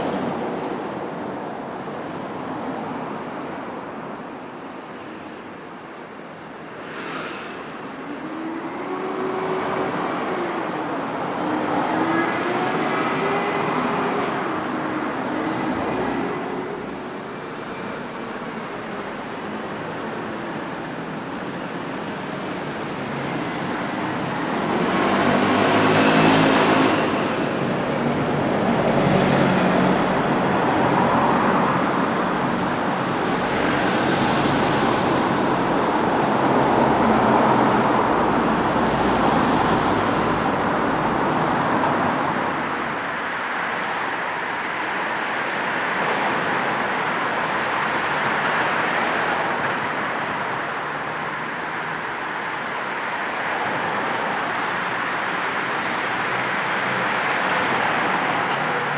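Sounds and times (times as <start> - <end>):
road traffic noise: 0.0 - 58.9
cars passing close: 5.5 - 58.9.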